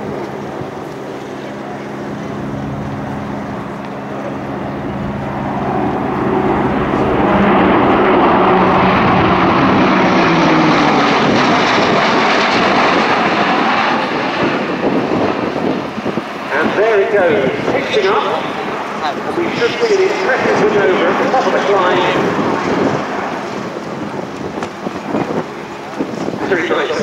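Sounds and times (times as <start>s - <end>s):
propeller aircraft drone passing: 0.0s - 27.0s.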